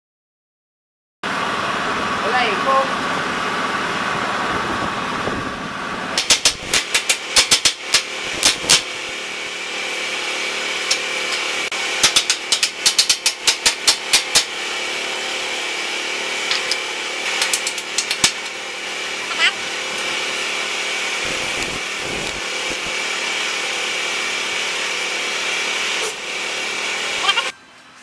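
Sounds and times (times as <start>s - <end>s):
steady machine hum: 1.3s - 28.0s.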